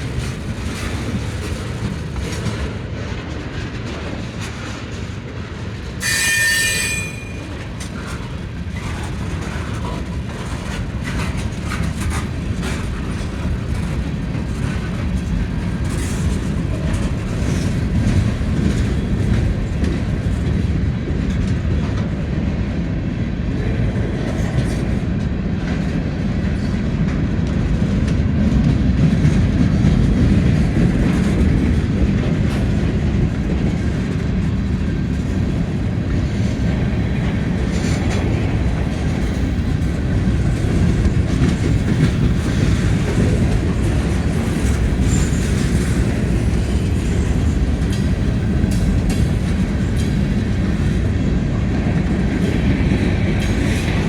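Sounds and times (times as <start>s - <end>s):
train cars rumbling on rails: 0.0s - 54.0s.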